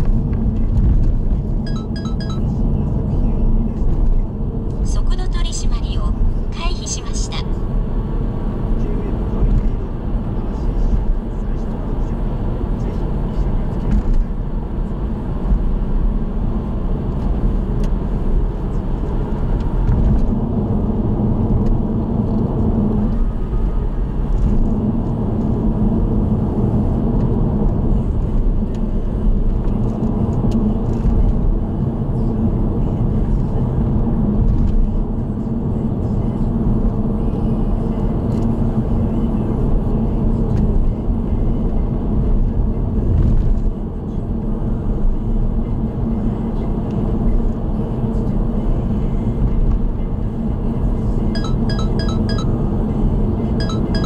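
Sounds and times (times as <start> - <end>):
car interior road and engine noise: 0.0 - 54.0.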